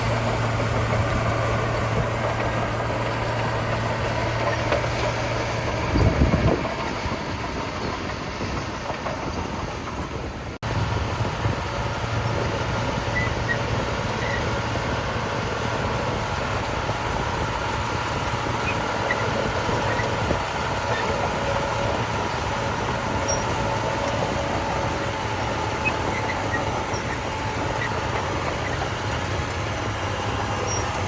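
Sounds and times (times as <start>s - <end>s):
diesel machinery engine running: 0.0s - 31.0s.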